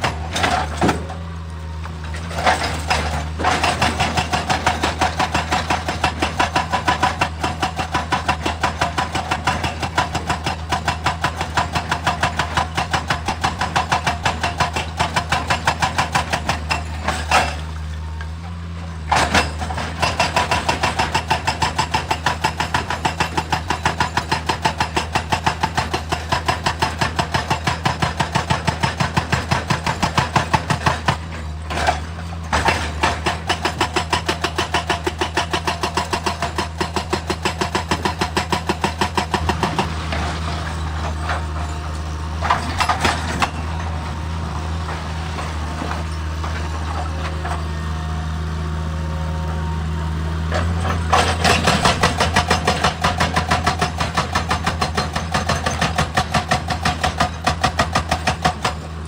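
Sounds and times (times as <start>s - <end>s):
hydraulic rock breaker hammering: 0.0s - 48.4s, 50.4s - 59.0s
excavator diesel engine running: 0.0s - 59.0s.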